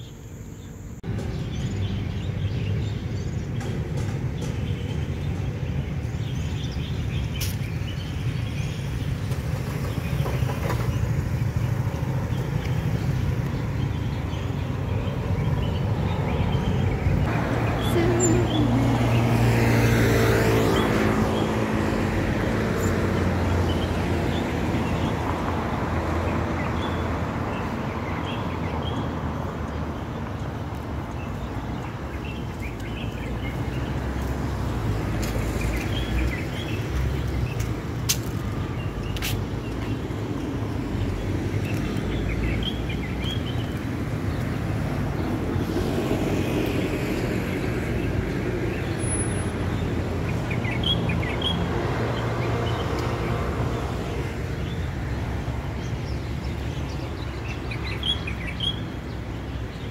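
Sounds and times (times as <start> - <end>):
small birds chirping: 0.0 - 19.4, 26.2 - 53.2, 54.1 - 59.9
road traffic rumble: 0.0 - 59.9.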